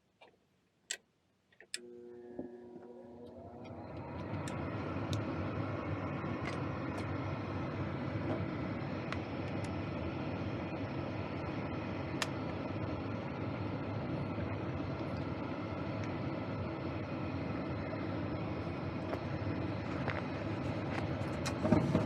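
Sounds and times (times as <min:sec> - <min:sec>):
furnace rushing hum: 0:01.7 - 0:22.0
furnace motor whine: 0:01.8 - 0:22.0.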